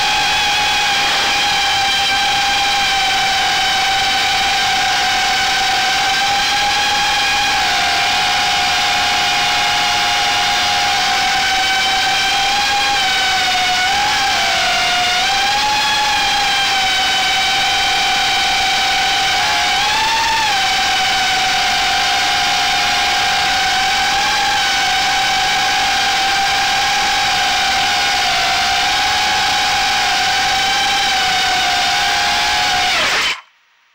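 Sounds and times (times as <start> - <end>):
quadcopter propellers whining: 0.0 - 33.5.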